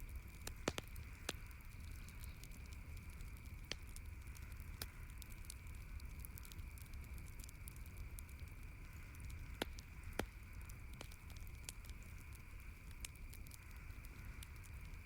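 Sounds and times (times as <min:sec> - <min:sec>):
campfire crackling: 0:00.0 - 0:15.0
loud fire pops: 0:00.0 - 0:15.0.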